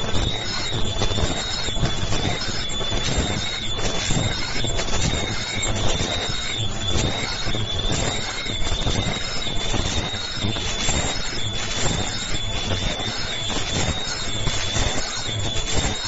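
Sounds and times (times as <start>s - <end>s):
high wavering machine whine: 0.0s - 16.0s.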